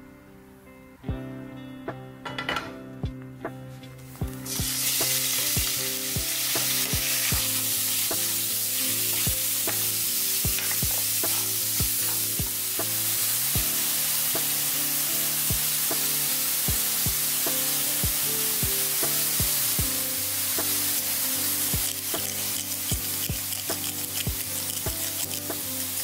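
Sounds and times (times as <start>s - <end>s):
meat sizzling in a frying pan: 4.2s - 26.0s.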